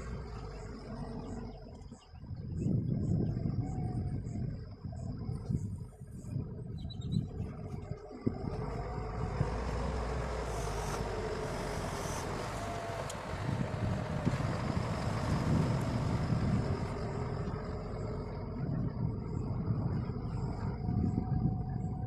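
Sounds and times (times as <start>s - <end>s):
heavy machine engine rumble: 0.0s - 22.0s.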